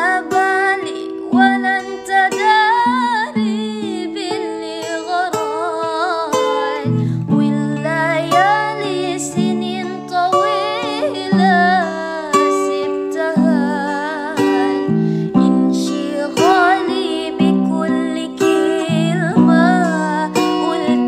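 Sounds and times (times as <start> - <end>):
wavering melody over plucked strings: 0.0 - 21.0.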